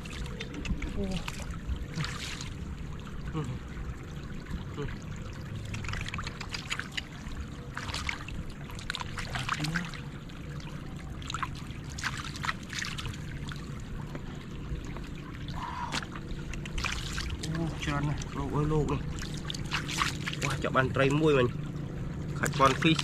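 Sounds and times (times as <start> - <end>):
splashing in shallow floodwater: 0.0 - 23.0.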